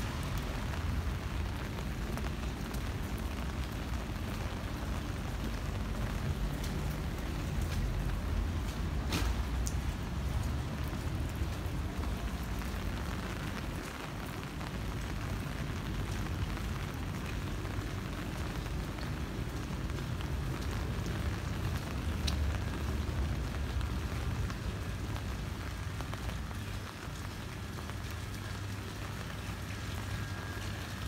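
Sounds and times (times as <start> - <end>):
rain on wet pavement: 0.0 - 31.0.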